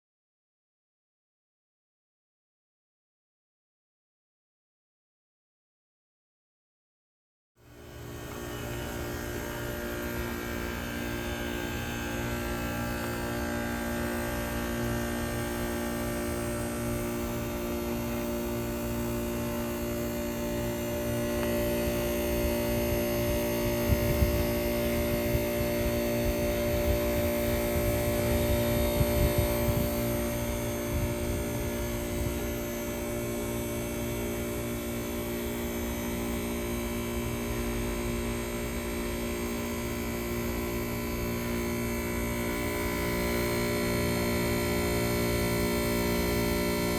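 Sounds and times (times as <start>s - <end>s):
heat pump compressor humming: 7.7s - 46.9s.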